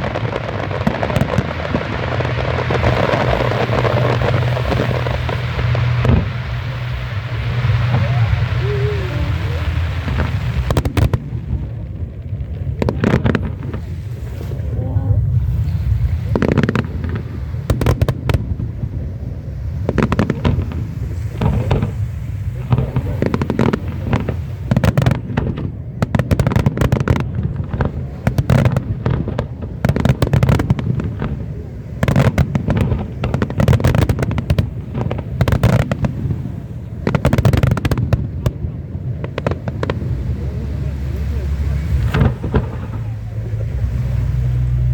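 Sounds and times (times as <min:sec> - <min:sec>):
fireworks cracking and popping: 0:00.0 - 0:14.8, 0:16.1 - 0:43.6
steady low rumble: 0:00.0 - 0:44.9.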